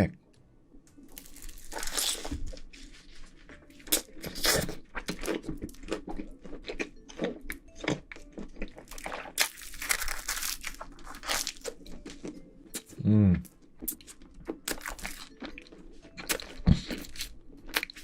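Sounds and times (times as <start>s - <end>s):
chewing pizza crunches: 1.1s - 12.9s, 13.8s - 18.0s.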